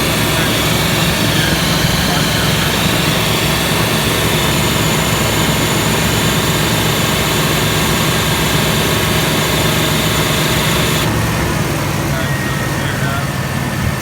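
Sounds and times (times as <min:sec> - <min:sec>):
air compressor hiss: 0:00.0 - 0:11.5
engine running: 0:00.0 - 0:14.0.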